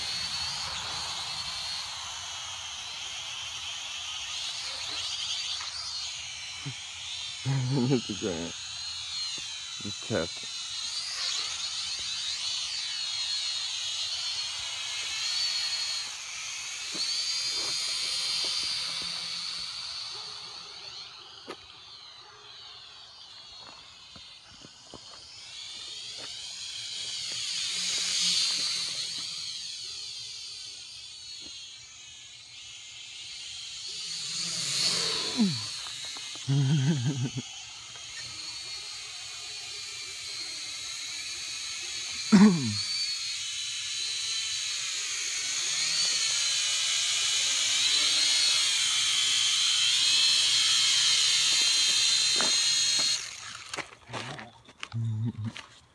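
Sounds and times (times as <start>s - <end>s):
toy drone propeller whine: 0.0s - 55.9s.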